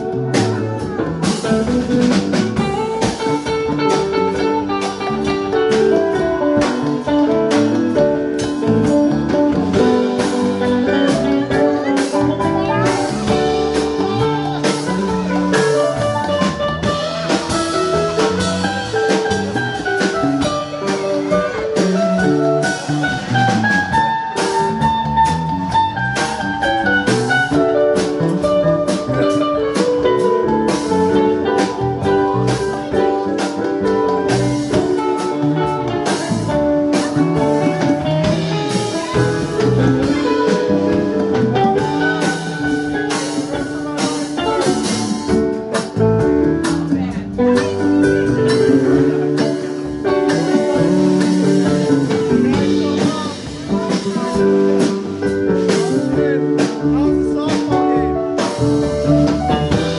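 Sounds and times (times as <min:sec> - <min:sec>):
drum kit: 0:00.0 - 0:59.9
electric bass: 0:00.0 - 0:59.9
electric guitars: 0:00.0 - 0:59.9
keyboard: 0:00.0 - 0:59.9.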